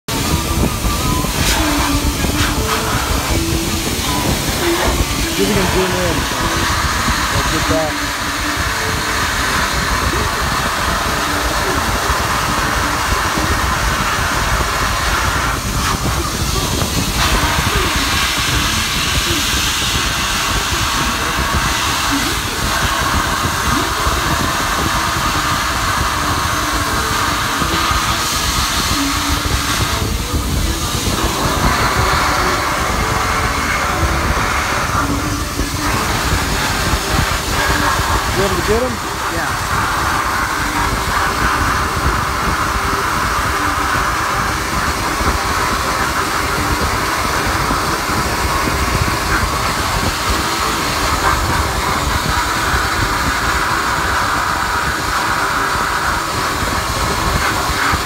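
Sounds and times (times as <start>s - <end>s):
compressed air and grit hissing: 0.1s - 58.0s.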